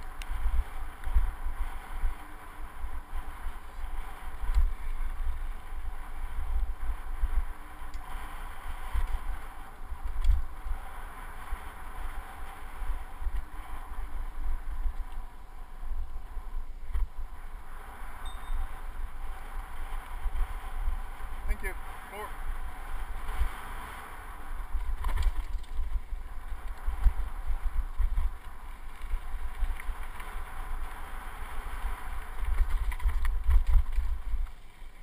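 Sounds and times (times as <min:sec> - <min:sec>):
bike clicks and rattles: 0:00.0 - 0:35.0
wind buffeting microphone: 0:00.0 - 0:35.0.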